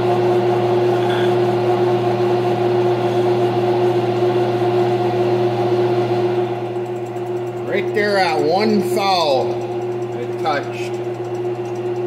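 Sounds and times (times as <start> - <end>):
metal lathe motor humming: 0.0 - 12.0.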